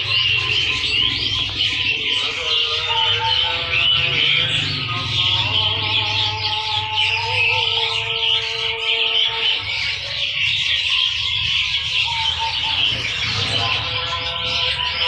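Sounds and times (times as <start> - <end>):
songbirds chirping and twittering: 0.0 - 15.0.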